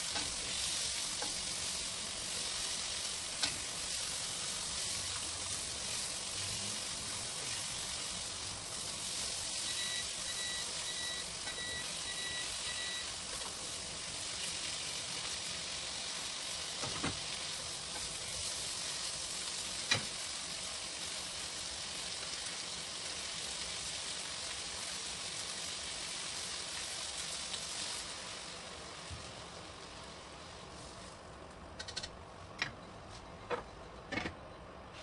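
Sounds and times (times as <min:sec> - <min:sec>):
tomato slices sizzling in pan: 0:00.0 - 0:31.4.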